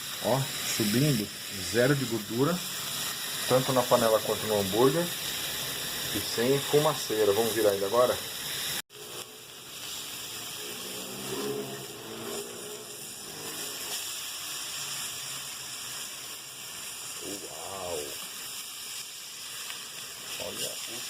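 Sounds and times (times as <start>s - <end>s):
burger patties sizzling in a pan: 0.0s - 21.0s.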